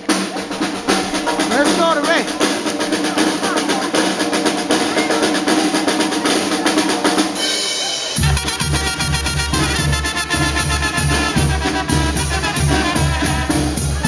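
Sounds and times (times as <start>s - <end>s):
snare drum rolls: 0.0s - 14.0s
trumpet and trombone notes: 0.0s - 14.0s.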